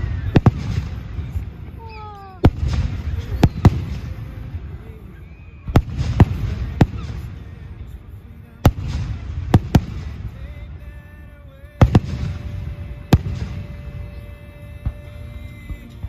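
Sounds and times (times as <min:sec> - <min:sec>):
fireworks bangs: 0:00.0 - 0:08.0, 0:08.6 - 0:16.0.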